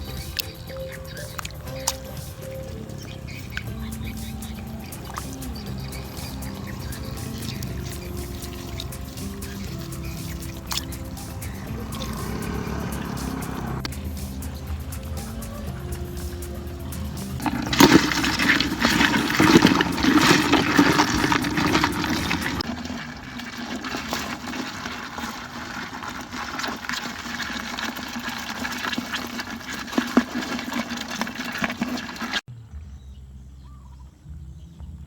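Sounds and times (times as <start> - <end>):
water splashing and sloshing: 0.0 - 32.5.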